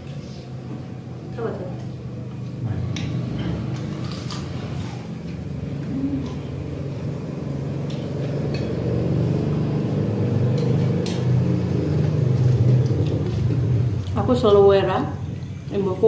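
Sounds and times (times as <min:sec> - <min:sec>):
motor engine running: 0:01.9 - 0:16.0.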